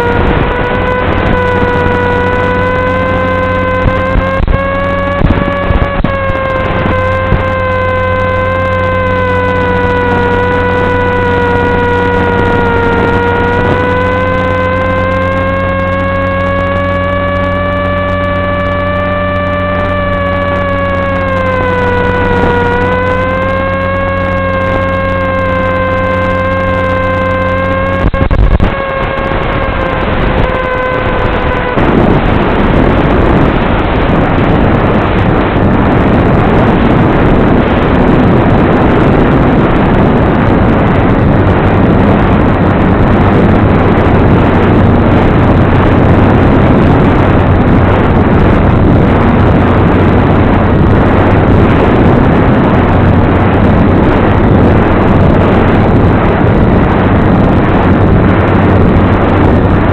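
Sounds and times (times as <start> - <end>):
loud rushing noise: 0.0 - 59.9
low hum: 0.0 - 59.9
motor and propeller whine: 0.0 - 59.9.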